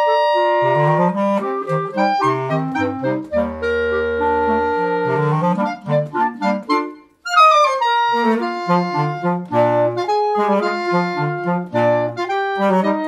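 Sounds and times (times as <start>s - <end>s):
clarinets playing in harmony: 0.0s - 13.0s
low bass clarinet note: 0.0s - 13.0s.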